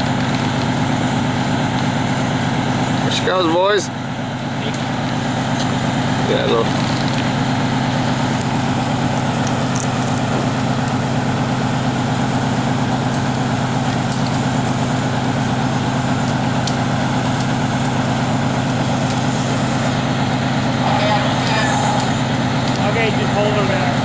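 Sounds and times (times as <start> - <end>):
diesel truck engines droning: 0.0 - 24.0.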